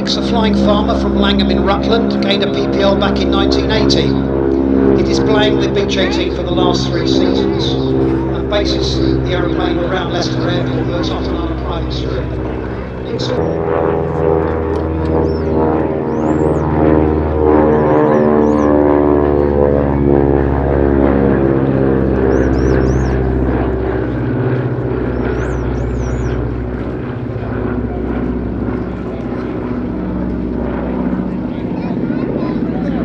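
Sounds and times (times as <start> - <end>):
piston aircraft flying past: 0.0 - 33.0.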